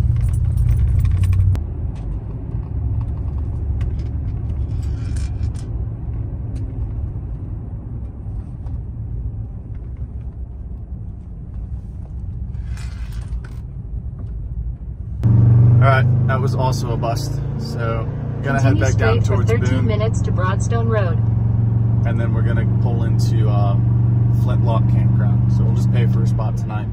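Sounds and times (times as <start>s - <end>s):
truck engine and road rumble: 0.0s - 26.9s.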